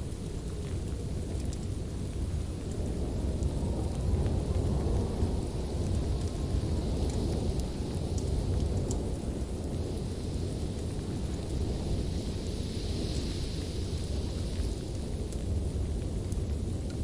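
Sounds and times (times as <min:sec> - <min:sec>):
fire crackling pops: 0:00.0 - 0:17.0
low rumble of fire flames: 0:00.0 - 0:17.0.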